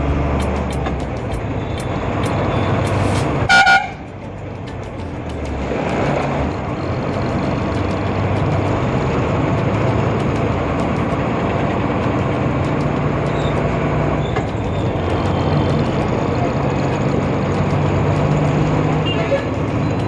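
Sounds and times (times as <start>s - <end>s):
diesel truck engine running: 0.0s - 20.0s
road noise: 0.0s - 20.0s.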